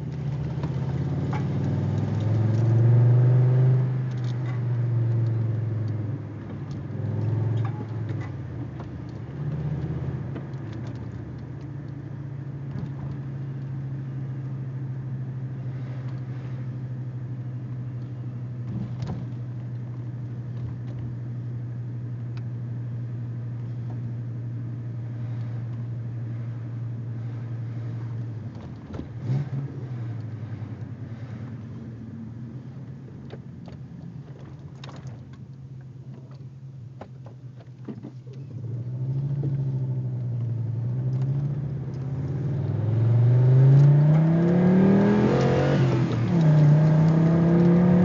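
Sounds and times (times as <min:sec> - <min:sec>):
car engine revving and idling: 0:00.0 - 0:48.0.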